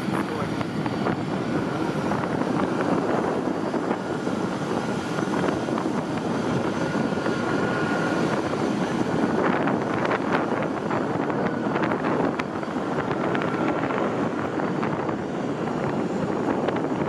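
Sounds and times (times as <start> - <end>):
engine noise with high whine: 0.0 - 17.0.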